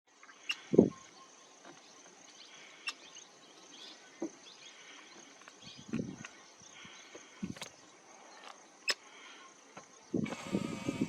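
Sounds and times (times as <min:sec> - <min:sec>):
crickets chirping: 0:00.1 - 0:11.0.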